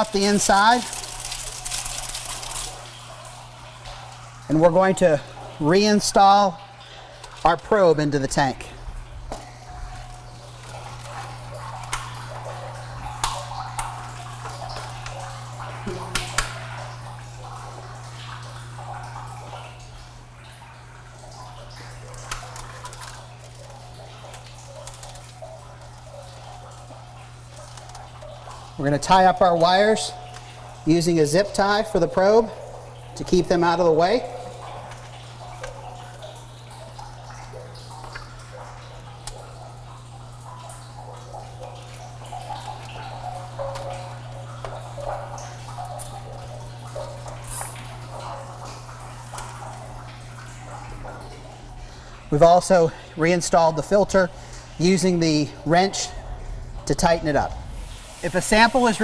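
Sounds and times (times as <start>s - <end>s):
steady low hum: 0.0s - 59.0s
water gurgling and splashing: 0.0s - 59.0s.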